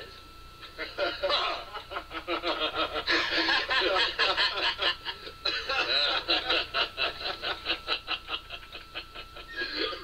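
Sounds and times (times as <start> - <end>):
men laughing: 0.6 - 10.0.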